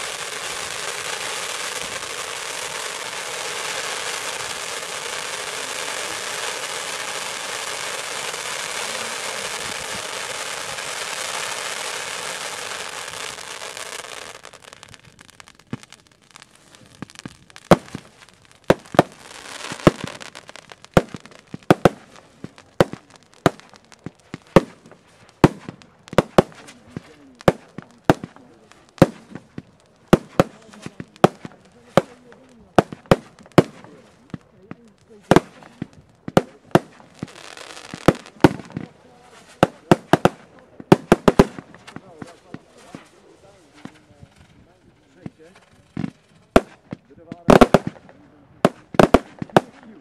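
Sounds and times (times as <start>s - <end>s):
firework fountains hissing: 0.0s - 44.0s
firework bangs: 0.0s - 50.0s.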